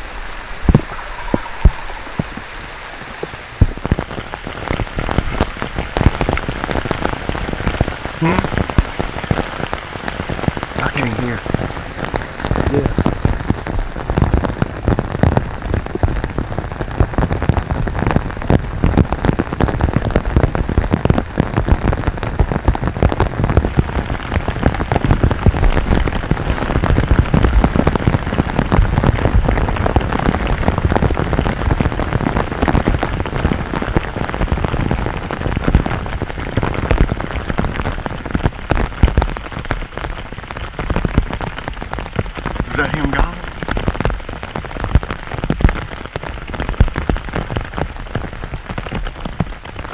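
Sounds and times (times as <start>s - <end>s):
steady rain patter: 0.0s - 49.9s.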